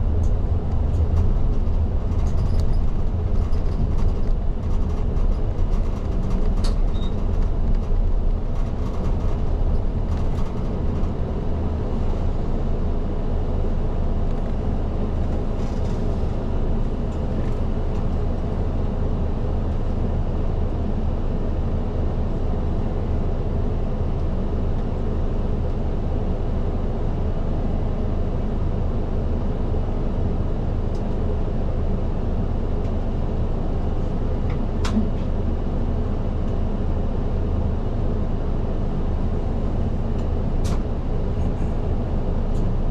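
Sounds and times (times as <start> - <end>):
bus diesel engine droning: 0.0 - 42.9.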